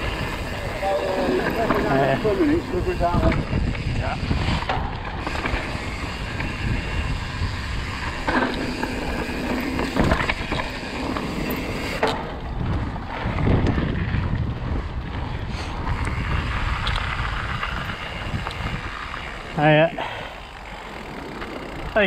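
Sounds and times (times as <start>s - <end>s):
wind over microphone: 0.0s - 20.6s
rolling road noise: 0.0s - 22.0s.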